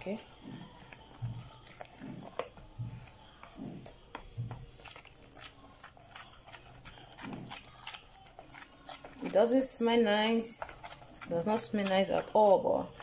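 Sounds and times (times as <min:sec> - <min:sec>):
wet squelching of stirred butter: 0:00.0 - 0:13.0.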